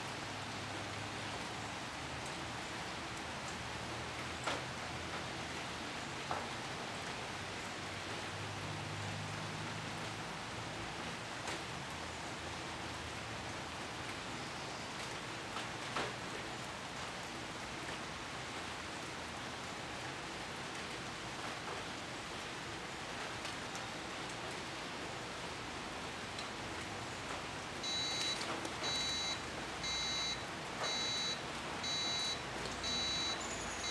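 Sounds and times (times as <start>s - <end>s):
outdoor background hiss: 0.0s - 33.9s.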